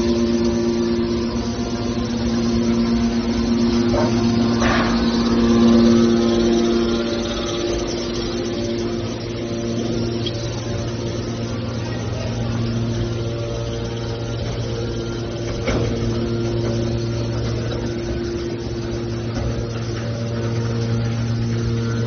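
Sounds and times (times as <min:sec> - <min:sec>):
baler power unit humming: 0:00.0 - 0:22.0.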